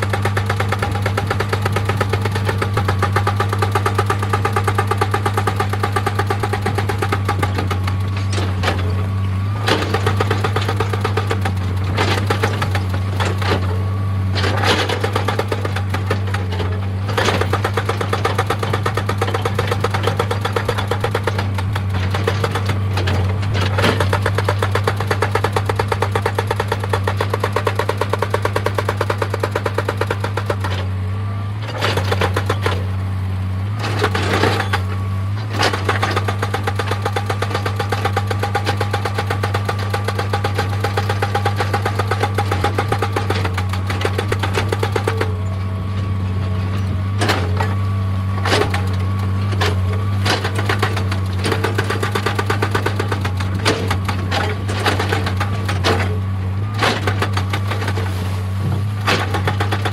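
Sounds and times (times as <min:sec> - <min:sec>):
excavator engine hum: 0:00.0 - 0:59.9
excavator rhythmic clatter: 0:00.0 - 0:59.9.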